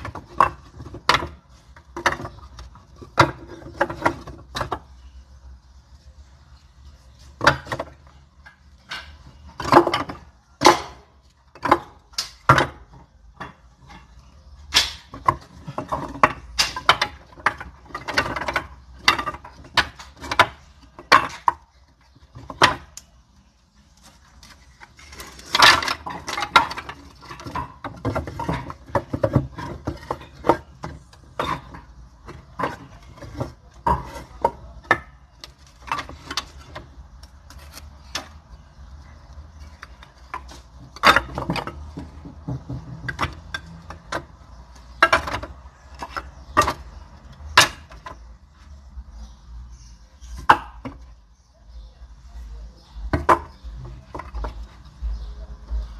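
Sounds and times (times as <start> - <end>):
firewood pieces knocking together: 0.0 - 5.1, 7.3 - 23.2, 24.1 - 48.4, 50.3 - 51.1, 53.0 - 55.1.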